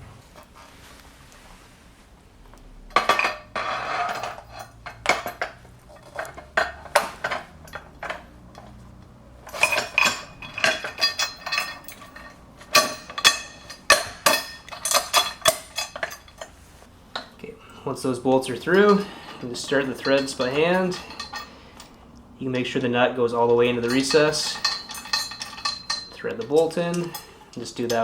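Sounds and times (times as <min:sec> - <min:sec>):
metal bolts clinking and scraping: 0:02.4 - 0:28.0.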